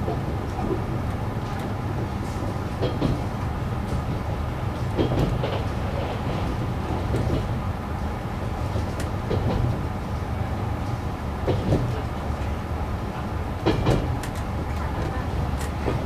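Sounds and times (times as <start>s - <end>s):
wheels clacking over rail joints: 0.0s - 7.6s, 8.6s - 9.8s, 11.4s - 16.0s
oncoming train passing: 0.0s - 16.0s
railcar engine rumble: 0.0s - 16.0s.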